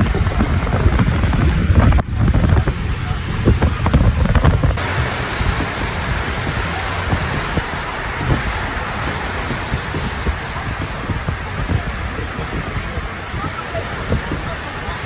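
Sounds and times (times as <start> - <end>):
deep uneven rumble: 0.0 - 15.0
rushing flood water: 0.0 - 15.0.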